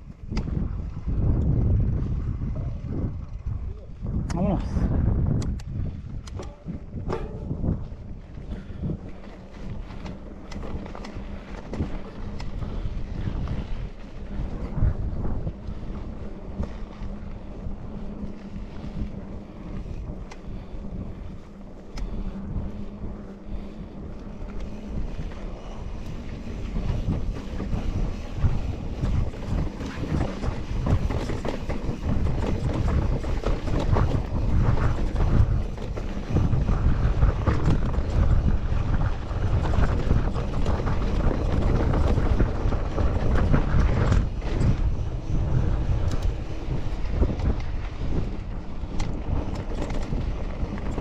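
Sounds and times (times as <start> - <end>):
bicycle rattling over rough ground: 0.0 - 51.0
wind buffeting microphone: 0.0 - 51.0.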